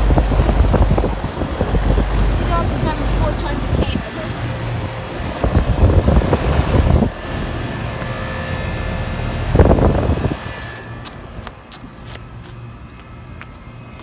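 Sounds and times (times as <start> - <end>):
loud rumbling noise: 0.0 - 11.4
air conditioner unit humming: 0.0 - 14.0.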